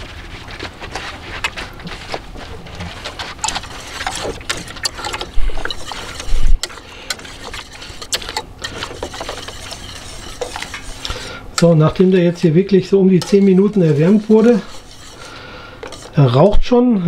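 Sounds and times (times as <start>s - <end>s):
wire whisk stirring liquid in pot: 0.0s - 16.4s
whisk knocking against pot: 0.9s - 12.0s, 13.1s - 16.2s.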